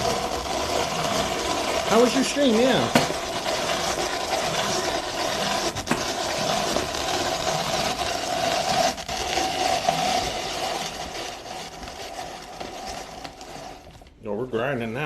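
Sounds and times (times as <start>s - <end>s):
kitchen grinder motor running: 0.0s - 14.1s.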